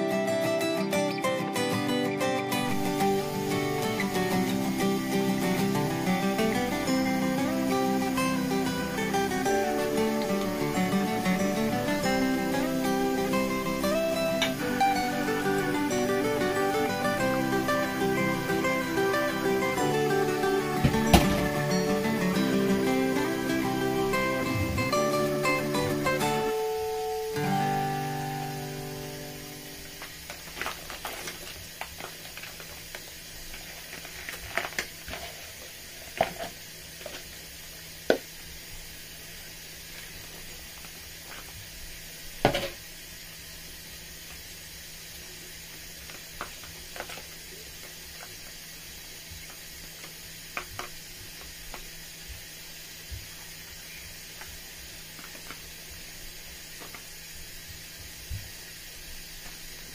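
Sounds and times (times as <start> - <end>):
simmering pot hiss: 0.0 - 59.9.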